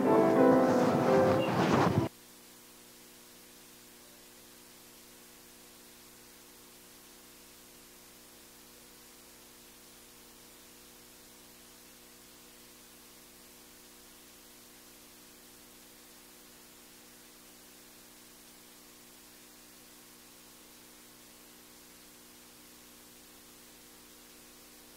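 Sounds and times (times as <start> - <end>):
faint electrical hum with hiss: 0.0 - 24.9.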